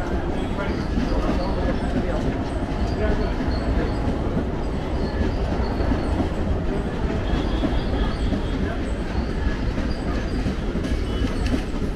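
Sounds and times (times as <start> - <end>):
train wheels on rails: 0.0 - 11.9.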